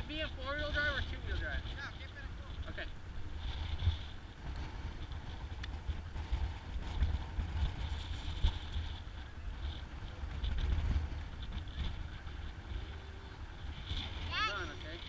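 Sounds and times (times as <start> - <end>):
quad engine running: 0.0 - 15.0
wind buffeting microphone: 0.0 - 15.0.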